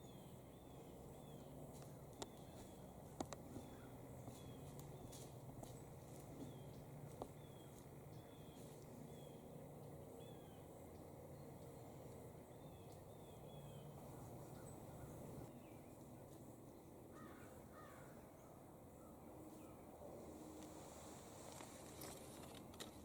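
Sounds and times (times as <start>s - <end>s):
distant bird chirps: 0.0s - 20.5s.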